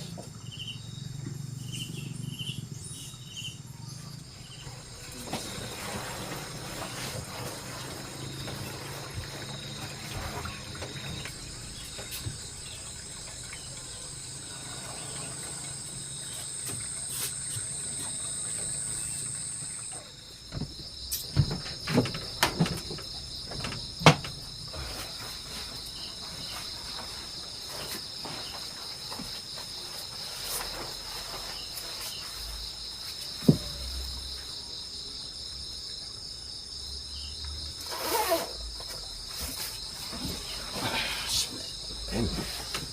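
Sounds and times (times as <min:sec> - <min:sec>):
insects chirring: 0:00.0 - 0:42.9.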